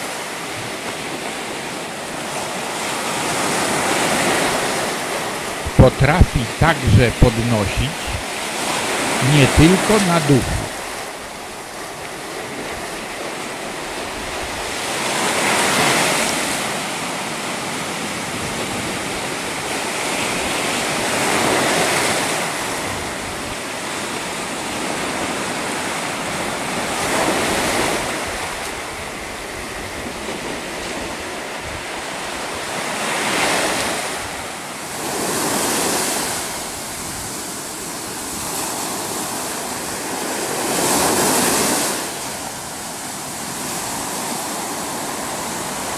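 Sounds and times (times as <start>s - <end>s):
surf breaking on shore: 0.0s - 45.9s.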